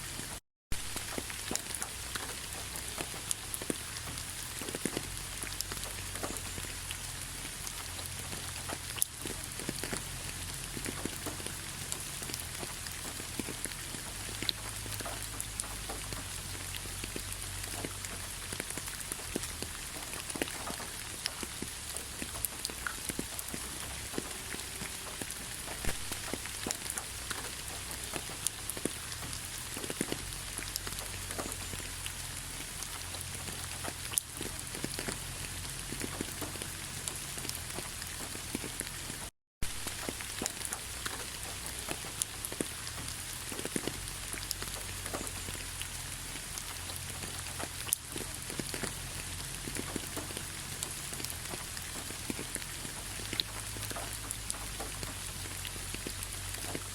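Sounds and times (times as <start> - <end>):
raindrops ticking on a surface: 0.0 - 56.9
steady rain: 0.0 - 56.9.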